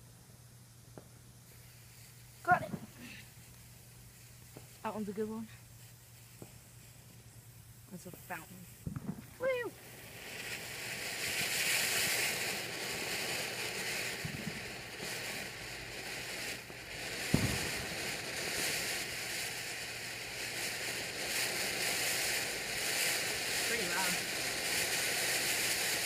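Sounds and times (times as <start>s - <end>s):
firework fountain hissing: 0.0s - 26.0s.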